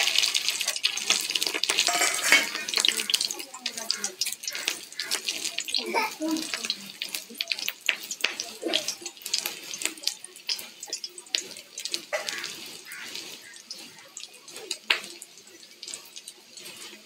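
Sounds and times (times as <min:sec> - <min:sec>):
fritters sizzling in oil: 0:00.0 - 0:17.0
metal spatula scraping wok: 0:00.0 - 0:17.0
oil popping: 0:00.0 - 0:17.0.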